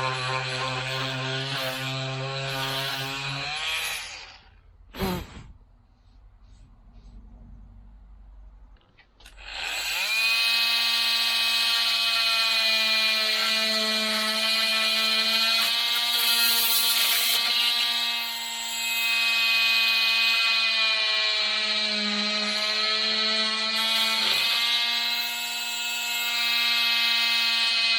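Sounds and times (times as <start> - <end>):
oscillating multi-tool buzzing: 0.0 - 4.6, 9.2 - 27.9.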